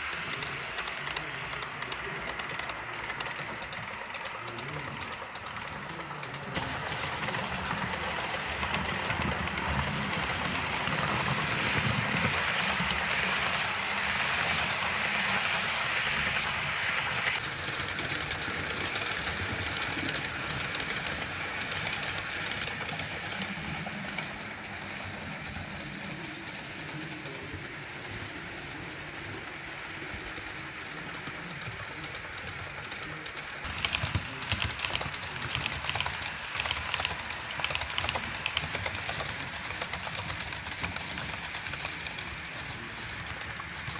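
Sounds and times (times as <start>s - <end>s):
model train rumble and hiss: 0.0s - 43.9s.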